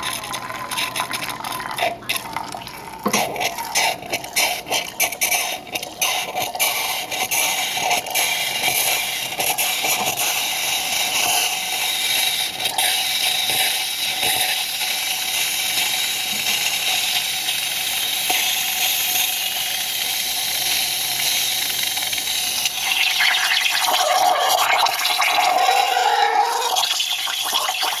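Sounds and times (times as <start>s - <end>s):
steam wand hissing in milk: 3.1s - 28.0s.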